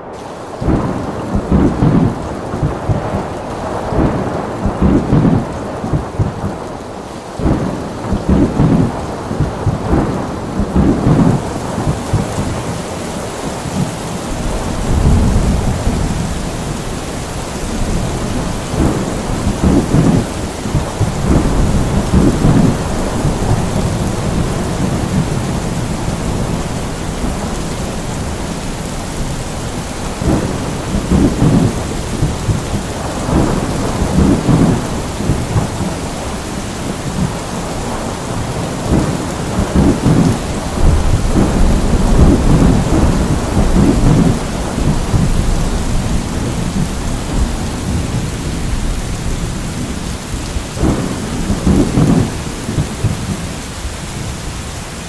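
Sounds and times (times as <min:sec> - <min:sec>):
rolling thunder: 0:00.0 - 0:54.6
steady rain: 0:00.0 - 0:55.0.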